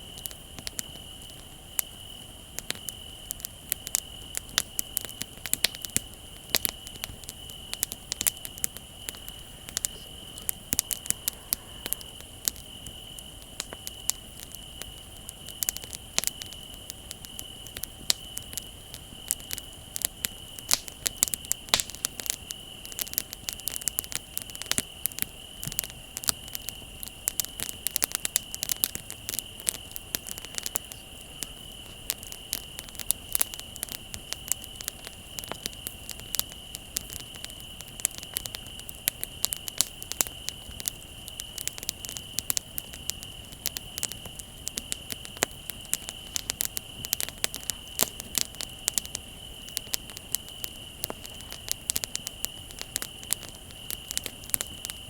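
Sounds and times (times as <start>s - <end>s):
crickets trilling: 0.0s - 55.0s
wood bonfire crackling: 0.0s - 55.0s.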